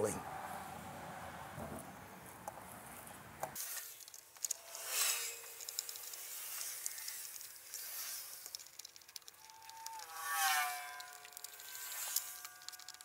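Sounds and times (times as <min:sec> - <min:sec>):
small ticks: 0:02.4 - 0:13.0.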